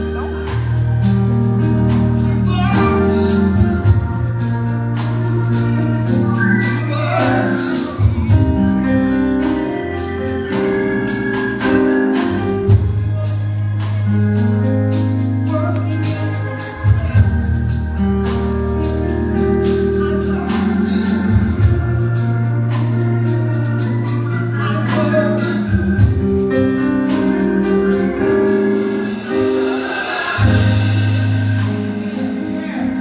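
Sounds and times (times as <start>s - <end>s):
gospel singing: 0.0s - 33.0s
organ playing held chords: 0.0s - 33.0s
sustained bass notes: 0.0s - 33.0s.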